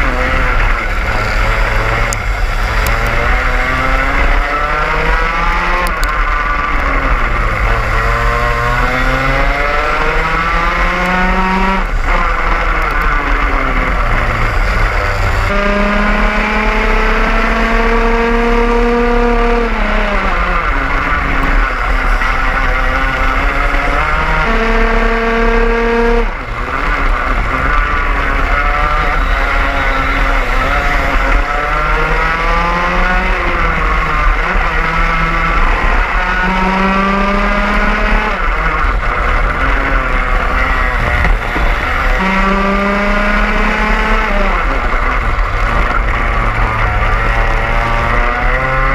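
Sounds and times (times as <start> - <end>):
kart engine at full throttle: 0.0 - 48.9
other karts passing: 0.0 - 48.9.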